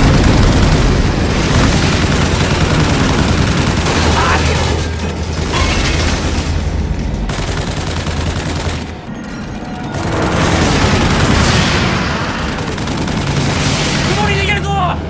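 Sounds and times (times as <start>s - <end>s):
rapid gunfire: 0.0s - 14.6s.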